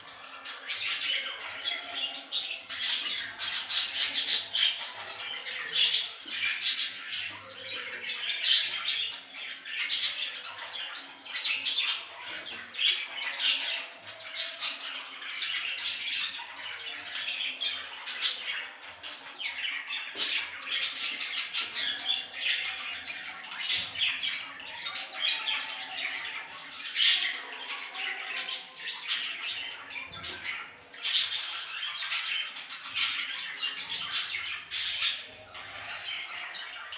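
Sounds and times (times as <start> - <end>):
budgerigars chattering: 0.0 - 36.9.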